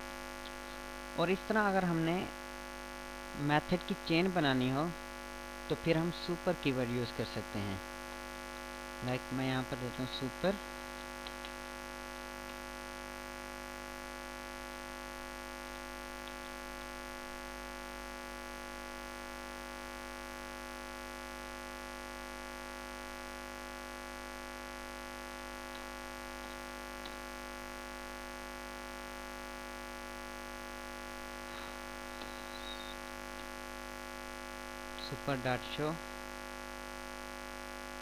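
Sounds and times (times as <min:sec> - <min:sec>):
electrical mains hum: 0:00.0 - 0:38.0.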